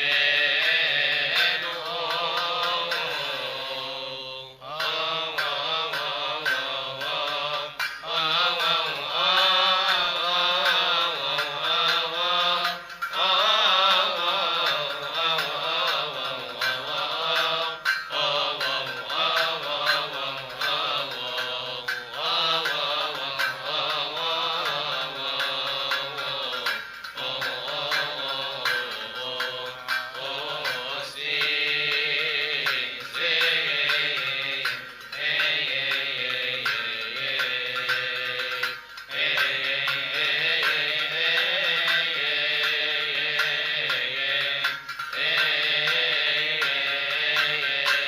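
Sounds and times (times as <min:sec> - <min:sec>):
man chanting a hymn: 0:00.0 - 0:48.0.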